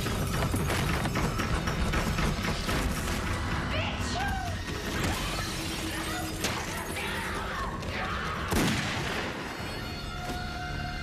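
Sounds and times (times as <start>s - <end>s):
low film score: 0.0s - 11.0s.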